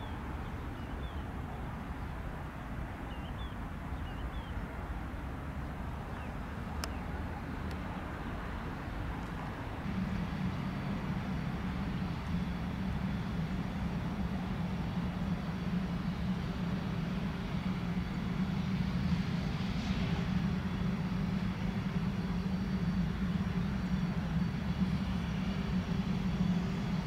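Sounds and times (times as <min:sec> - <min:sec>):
jet engine rumble: 0:00.0 - 0:27.0
jet engine whine: 0:00.0 - 0:27.0.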